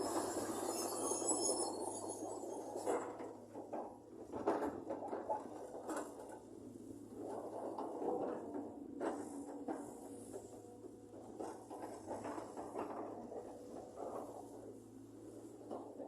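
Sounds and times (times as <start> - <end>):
excavator machine noise: 0.0 - 16.0.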